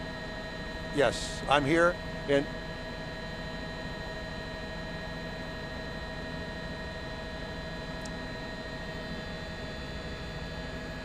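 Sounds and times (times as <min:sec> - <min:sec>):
helicopter cabin drone and hiss: 0:00.2 - 0:11.0.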